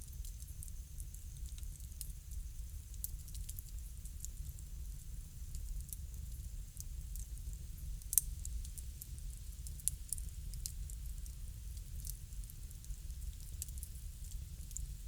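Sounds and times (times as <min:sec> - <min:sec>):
low steady fire rumble: 0:00.0 - 0:15.0
wood fire crackling and popping: 0:00.0 - 0:15.0.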